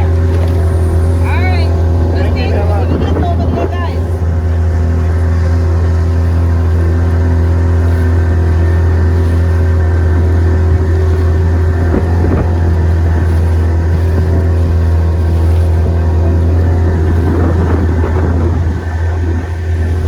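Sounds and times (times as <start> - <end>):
motorboat engine running: 0.0 - 20.0.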